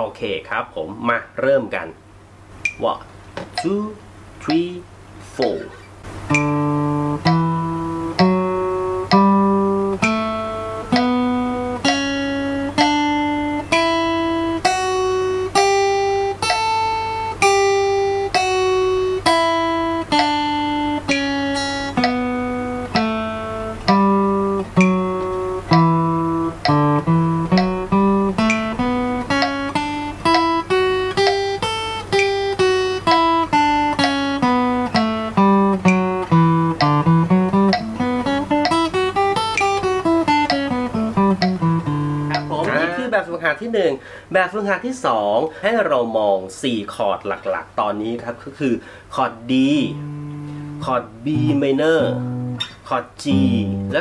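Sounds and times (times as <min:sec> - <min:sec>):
acoustic guitar playing a scale: 0:02.6 - 0:43.6, 0:49.0 - 0:54.0.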